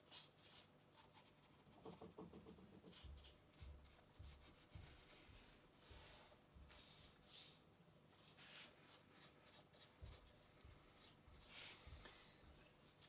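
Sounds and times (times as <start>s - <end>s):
faint rubbing and handling noises: 0.0s - 13.0s.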